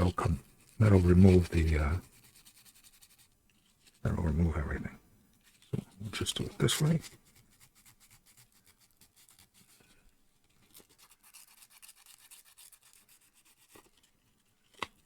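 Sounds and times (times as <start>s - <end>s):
sandpaper scratching a fingernail: 0.0s - 4.0s, 5.4s - 9.8s, 10.6s - 14.5s.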